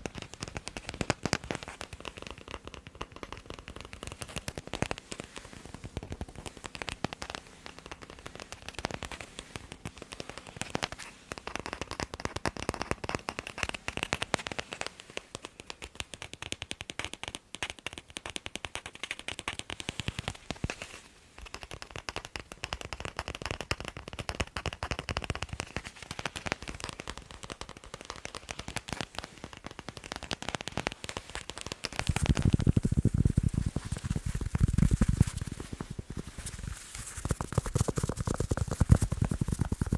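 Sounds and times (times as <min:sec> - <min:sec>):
rapid tapping on a ball: 0:00.0 - 0:39.9.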